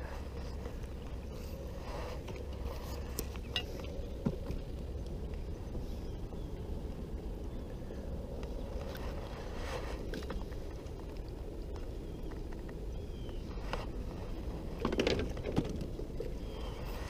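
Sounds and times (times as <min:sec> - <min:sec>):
faint steady hum: 0:00.0 - 0:17.0
steady low rumble: 0:00.0 - 0:17.0.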